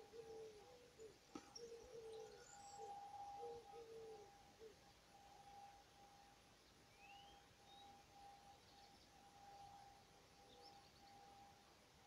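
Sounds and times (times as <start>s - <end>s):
distant songbirds chirping: 0.0s - 12.0s
intermittent pure tone: 0.0s - 12.0s.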